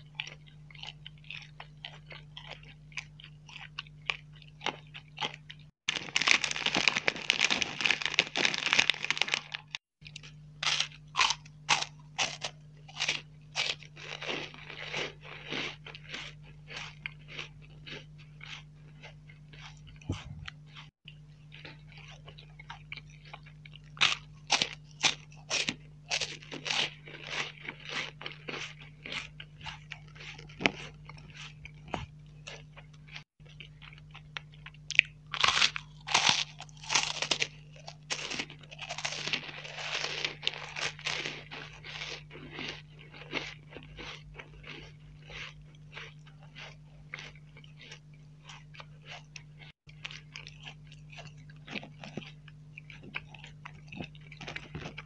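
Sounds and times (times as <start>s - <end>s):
crunching wafer bars: 0.0s - 55.0s.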